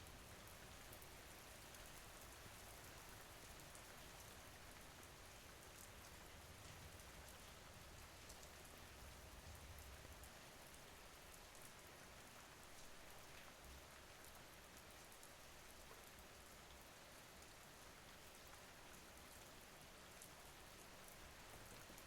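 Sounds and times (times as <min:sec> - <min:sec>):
faint rain: 0:00.0 - 0:22.0.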